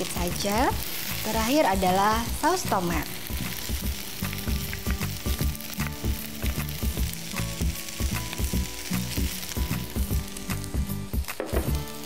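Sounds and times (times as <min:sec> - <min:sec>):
rice sizzling in frying pan: 0:00.0 - 0:12.0.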